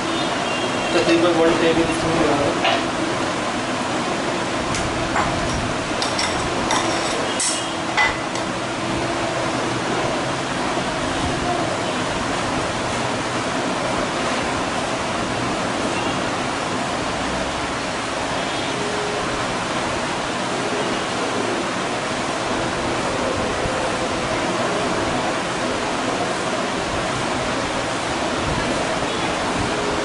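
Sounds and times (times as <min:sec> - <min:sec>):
steady rushing noise: 0:01.1 - 0:30.0.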